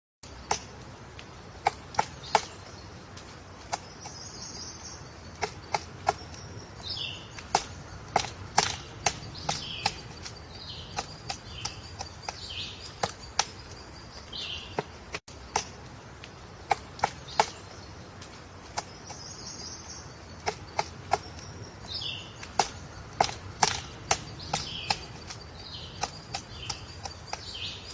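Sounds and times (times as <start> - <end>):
woodpecker tapping on wood: 0.2 - 27.9.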